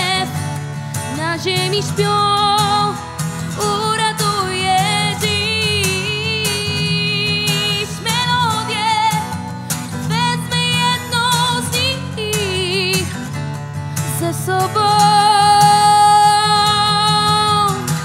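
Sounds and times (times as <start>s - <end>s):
woman singing with vibrato: 0.0s - 13.3s, 14.0s - 18.0s
strummed acoustic guitar: 0.0s - 18.0s.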